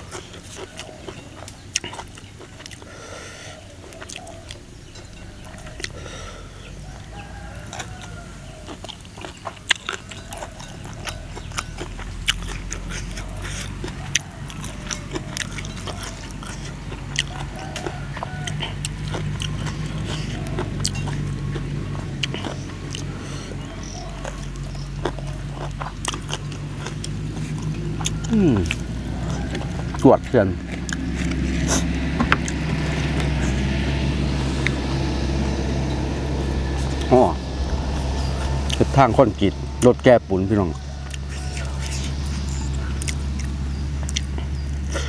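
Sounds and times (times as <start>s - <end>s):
low steady hum: 0.0s - 45.0s
man chewing and crunching food: 0.0s - 45.0s.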